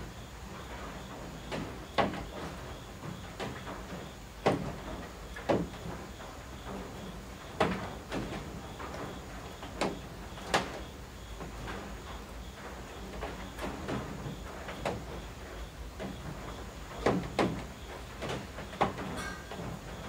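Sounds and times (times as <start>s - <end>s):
light rain patter on eaves: 0.0s - 20.0s.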